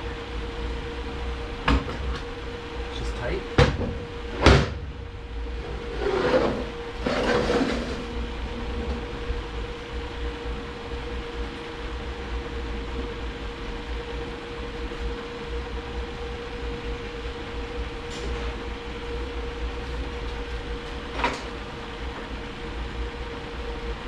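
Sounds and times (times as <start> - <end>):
workshop background hum: 0.0 - 24.0.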